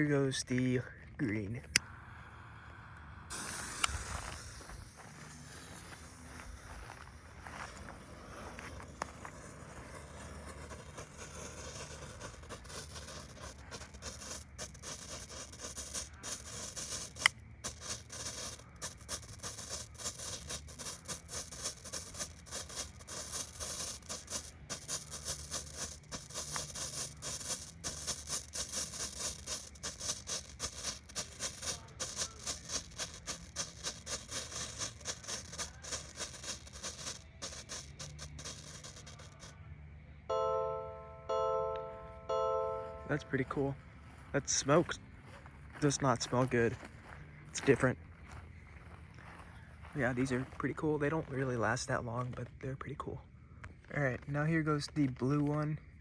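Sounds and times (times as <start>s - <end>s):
firework hissing and sputtering: 1.7s - 39.6s, 43.0s - 52.0s.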